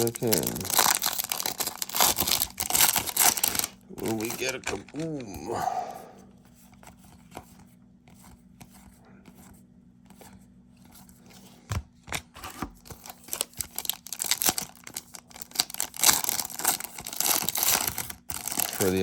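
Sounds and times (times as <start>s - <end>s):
hands handling trading cards: 0.0s - 5.4s, 6.4s - 19.0s.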